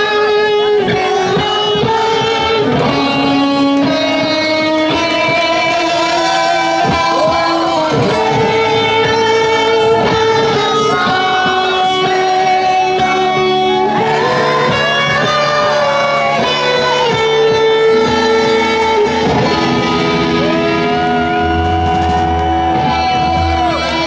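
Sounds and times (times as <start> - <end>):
electric guitar lead bending notes: 0.0 - 24.0
live band playing: 0.0 - 24.0.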